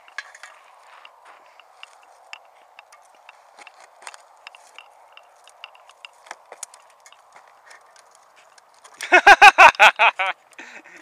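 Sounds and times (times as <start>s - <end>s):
dry twigs crackling and snapping: 0.0s - 9.1s.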